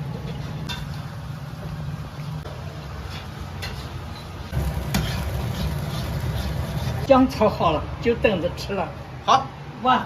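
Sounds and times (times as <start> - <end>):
kitchen hum: 0.0 - 9.0.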